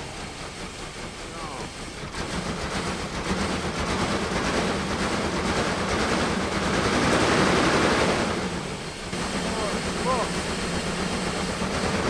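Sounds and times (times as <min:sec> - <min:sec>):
truck engine starting: 0:00.0 - 0:12.0.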